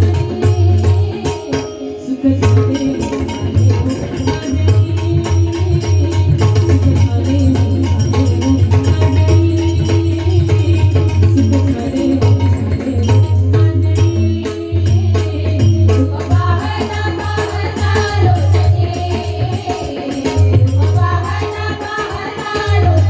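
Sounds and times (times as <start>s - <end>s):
barrel drum rhythm: 0.0s - 1.7s, 2.4s - 23.0s
jingling small percussion: 0.0s - 23.0s.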